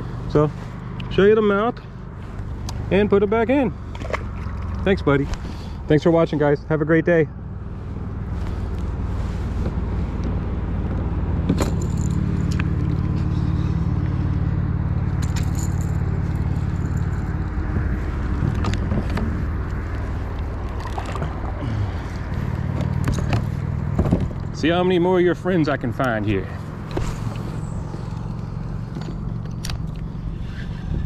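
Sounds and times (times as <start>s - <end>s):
vehicle engine hum: 0.0s - 31.0s.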